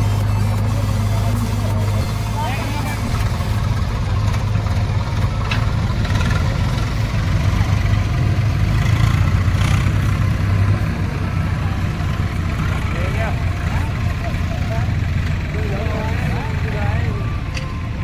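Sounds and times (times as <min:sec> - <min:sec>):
tractor diesel engine drone: 0:00.0 - 0:18.0.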